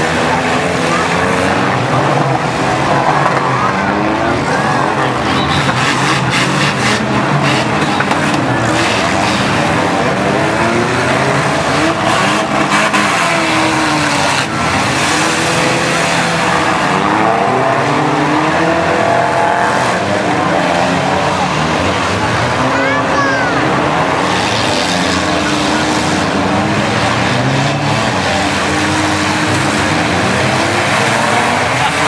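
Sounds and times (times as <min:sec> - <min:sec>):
car engines revving hard: 0:00.0 - 0:32.0.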